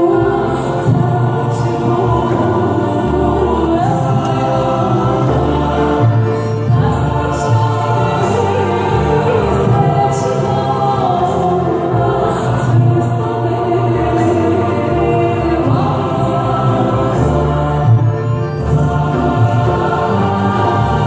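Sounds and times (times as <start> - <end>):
choir singing: 0.0 - 21.0
orchestra playing: 0.0 - 21.0.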